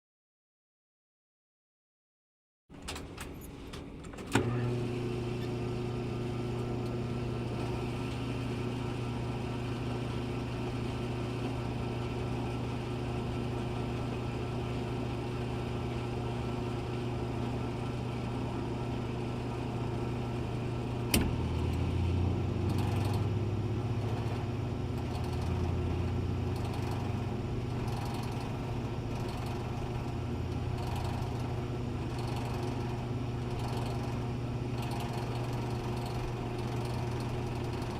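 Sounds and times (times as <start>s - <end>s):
gas pump humming: 4.3s - 37.9s.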